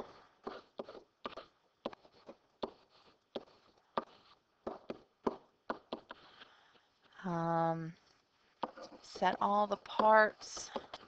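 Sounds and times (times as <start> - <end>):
pen writing on a board: 0.0 - 6.5, 8.6 - 11.0.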